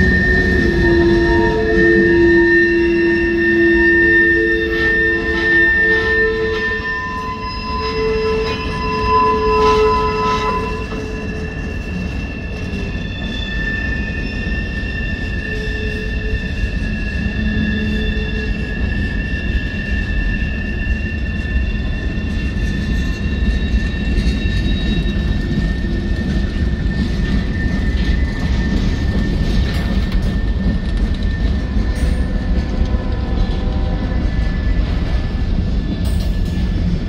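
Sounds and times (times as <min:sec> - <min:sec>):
high metallic squeal: 0:00.0 - 0:37.0
train wheels rumbling on rail: 0:00.0 - 0:37.0.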